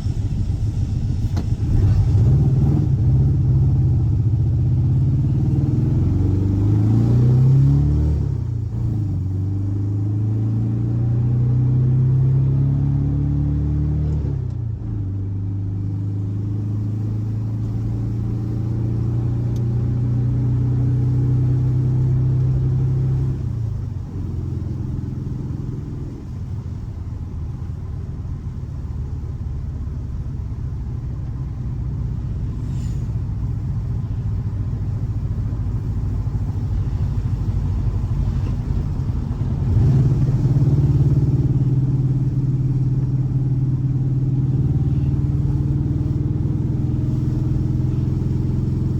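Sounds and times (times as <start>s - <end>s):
car engine rumbling: 0.0s - 48.9s.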